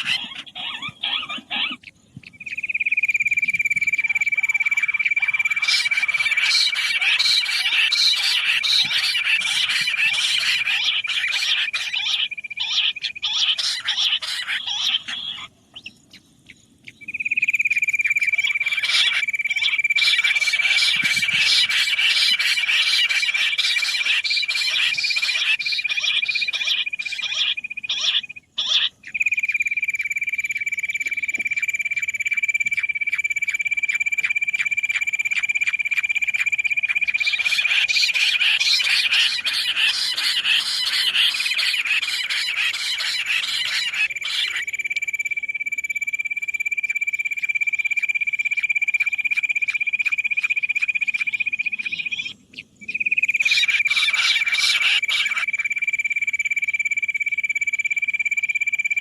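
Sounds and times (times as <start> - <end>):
quail calls trilling: 0.0 - 45.6, 47.3 - 55.9.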